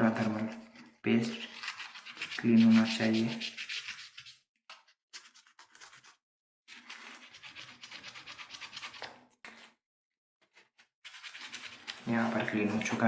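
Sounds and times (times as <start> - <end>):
scratchy rubbing: 0.2 - 9.7, 10.4 - 13.0.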